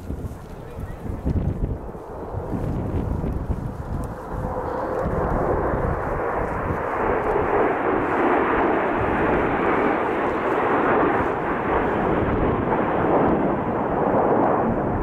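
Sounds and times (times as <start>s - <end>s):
jet engines rumbling overhead: 0.0s - 15.0s.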